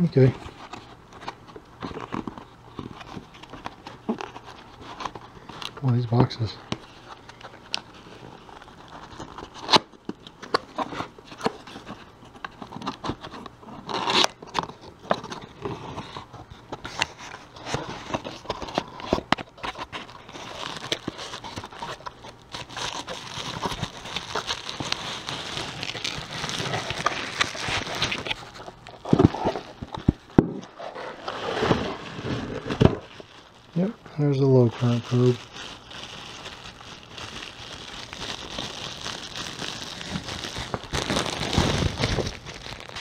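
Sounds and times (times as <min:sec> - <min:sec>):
bubble wrap crinkling: 0:00.0 - 0:43.0.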